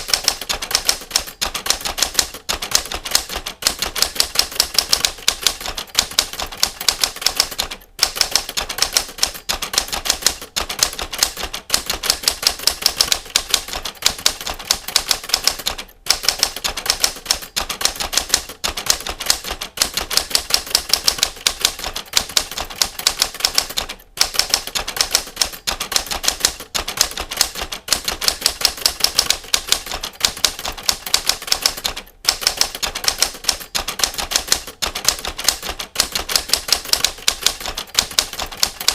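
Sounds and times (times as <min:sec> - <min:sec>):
typewriter keys clicking: 0:00.0 - 0:38.9.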